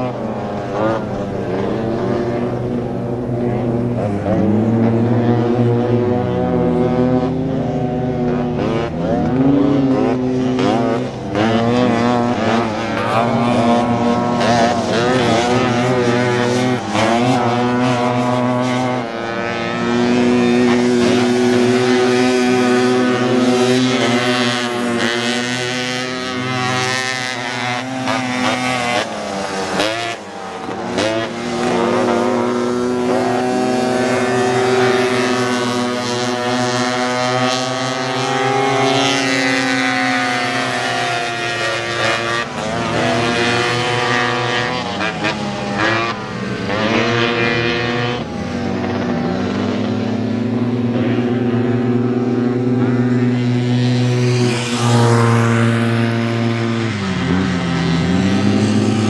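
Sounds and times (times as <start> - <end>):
buggy engines revving: 0.0 - 59.0.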